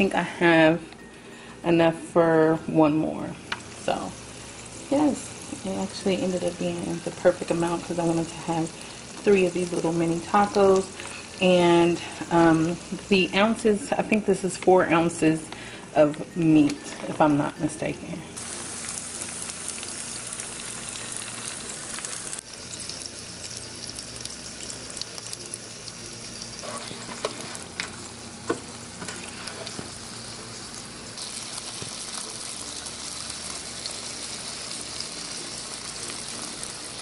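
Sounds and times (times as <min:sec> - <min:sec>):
food sizzling in a frying pan: 0:01.7 - 0:17.7, 0:18.4 - 0:37.0.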